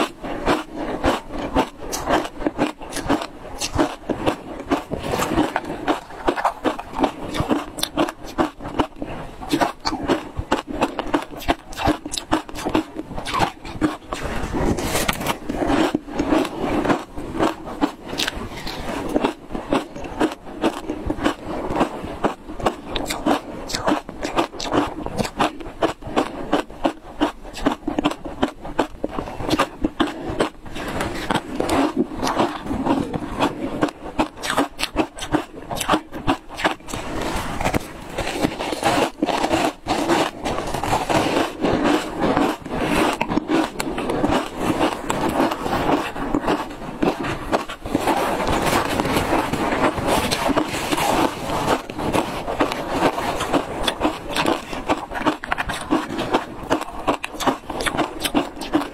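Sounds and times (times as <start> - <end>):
ice crunching while chewed: 0.0 - 58.9.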